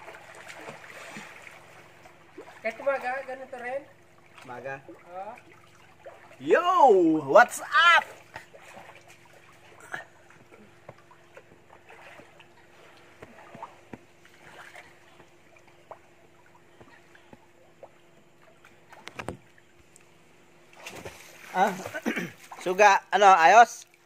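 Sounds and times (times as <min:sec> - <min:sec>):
faint steady hum: 0:00.0 - 0:24.0
pool water lapping and splashing: 0:00.0 - 0:24.0.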